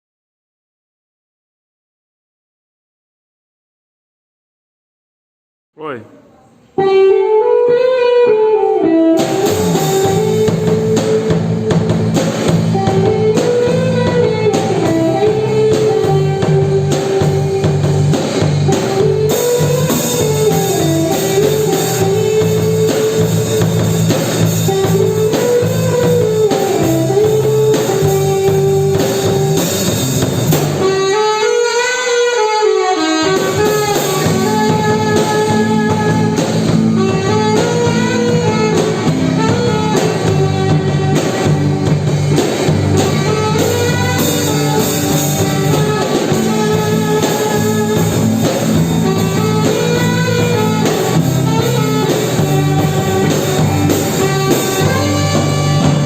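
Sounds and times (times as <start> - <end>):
drums: 6.8 - 56.0
bass: 9.0 - 31.9, 33.1 - 56.0.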